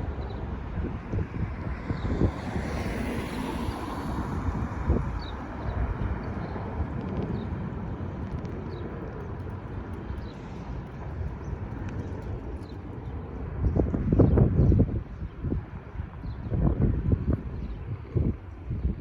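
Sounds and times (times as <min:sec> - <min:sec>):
jet engines rumbling: 0:00.0 - 0:18.9.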